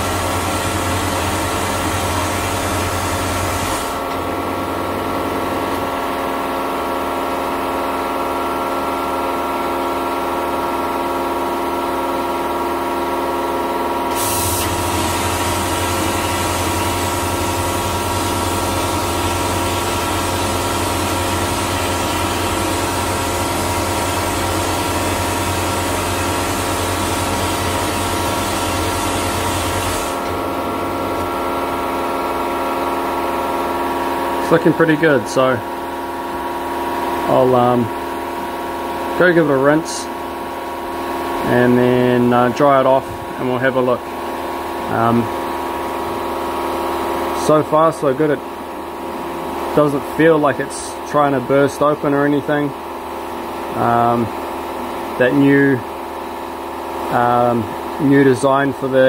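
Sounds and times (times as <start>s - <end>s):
pump hum: 0.0s - 59.0s.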